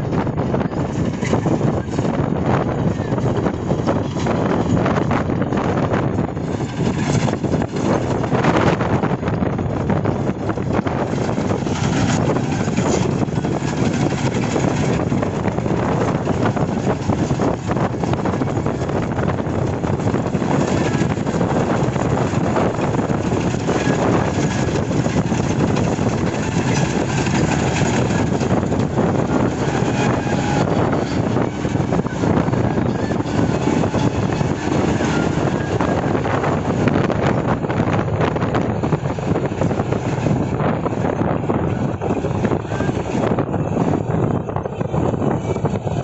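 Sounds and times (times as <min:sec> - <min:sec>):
combine harvester running: 0:00.0 - 0:46.0.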